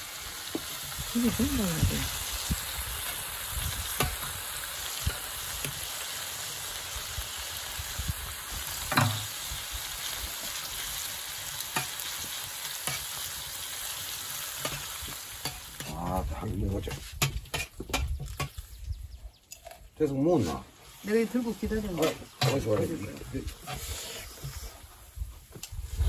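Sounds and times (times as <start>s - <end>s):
meat sizzling on a griddle: 0.0s - 18.9s, 20.6s - 26.0s.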